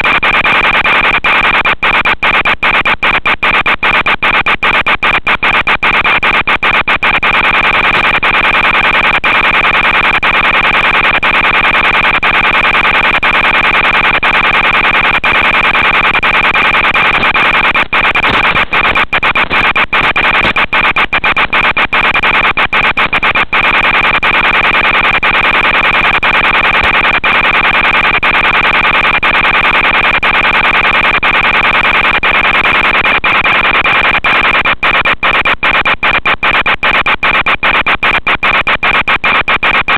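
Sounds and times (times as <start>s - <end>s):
radio static hiss and buzz: 0.0s - 39.9s.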